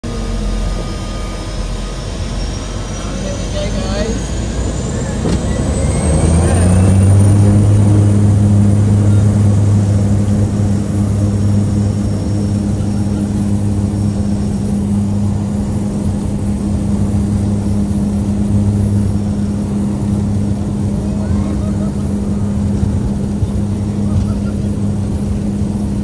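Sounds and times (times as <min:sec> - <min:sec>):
plane engine and propeller humming: 0:00.0 - 0:26.0.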